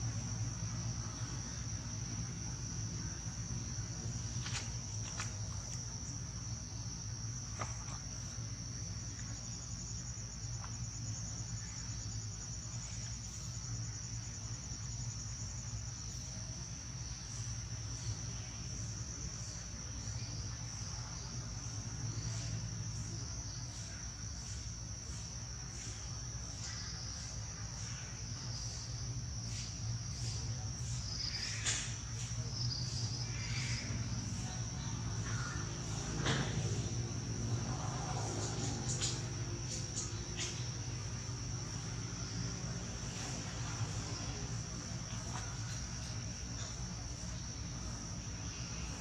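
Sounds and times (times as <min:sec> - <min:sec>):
pulsing insect call: 0:00.0 - 0:49.0.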